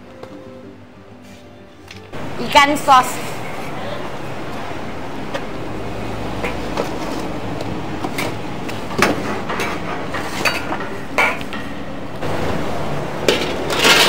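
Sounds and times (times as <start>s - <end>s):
kitchen background noise: 0.0s - 14.0s.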